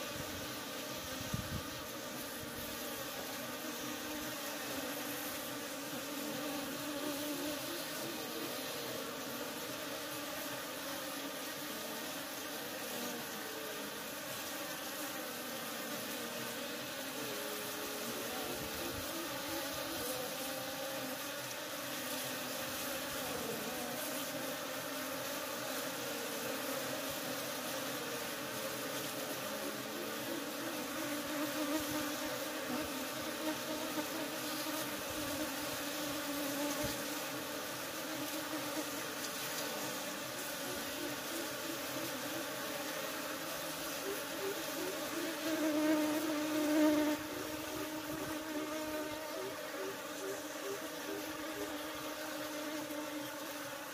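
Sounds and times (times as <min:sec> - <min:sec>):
honeybees buzzing: 0:00.0 - 0:53.9.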